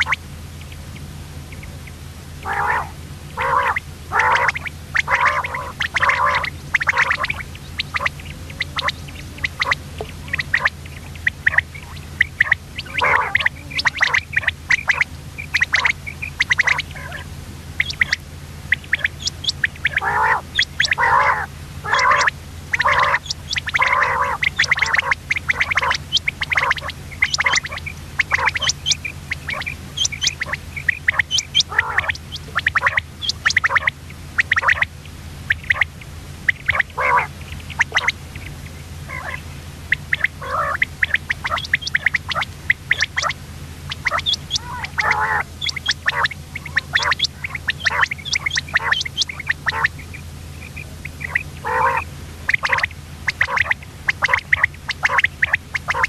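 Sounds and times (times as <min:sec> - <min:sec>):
quail calling: 0:00.0 - 0:56.0
steady low hum: 0:00.0 - 0:56.0.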